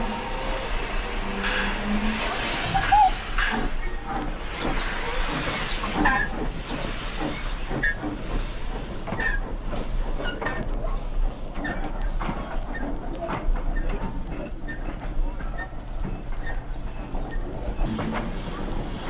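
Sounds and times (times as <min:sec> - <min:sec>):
steady steam hiss: 0:00.0 - 0:13.0, 0:14.5 - 0:19.0
model steam engine chuffs: 0:00.0 - 0:19.0.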